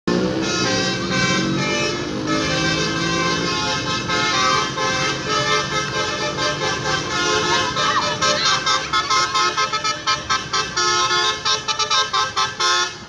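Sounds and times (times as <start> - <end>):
musical bus air horn: 0.1 - 13.0.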